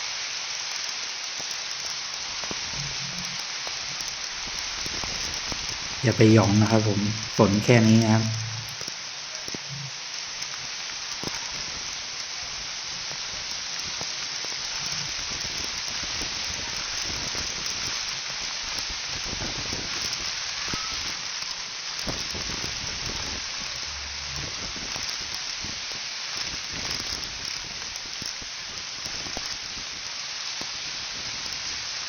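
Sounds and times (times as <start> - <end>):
faint raindrop ticks: 0.0 - 7.4, 8.2 - 32.0
heavy rain hissing: 0.0 - 32.0.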